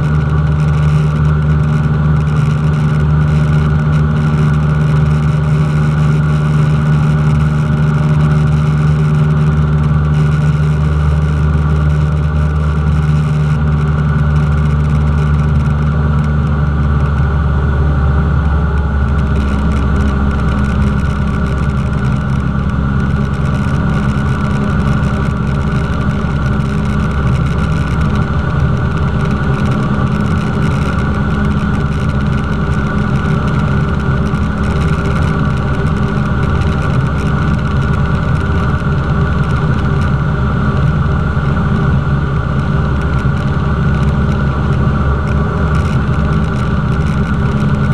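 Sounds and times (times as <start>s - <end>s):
propeller plane engine drone: 0.0s - 47.9s.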